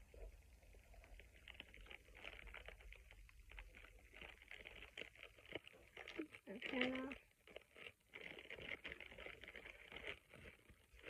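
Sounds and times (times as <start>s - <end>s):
plastic bag crinkling: 0.9s - 11.0s.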